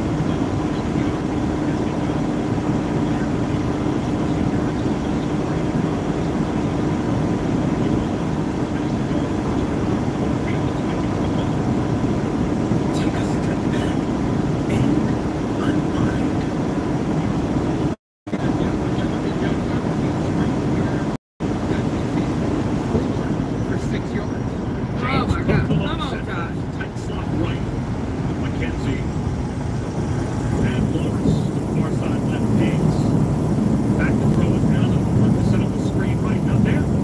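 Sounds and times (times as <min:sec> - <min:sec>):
truck engine drone and road rumble: 0:00.0 - 0:37.0.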